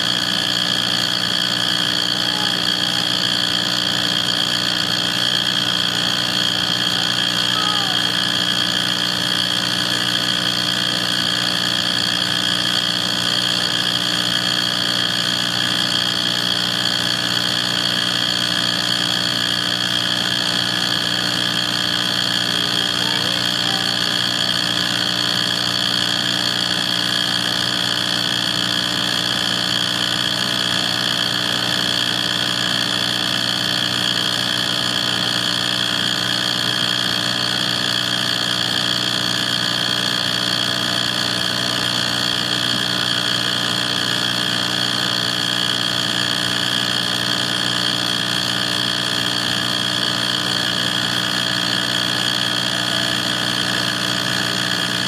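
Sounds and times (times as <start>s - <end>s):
furnace high-pitched whine: 0.0s - 55.0s
furnace low hum: 0.0s - 55.0s.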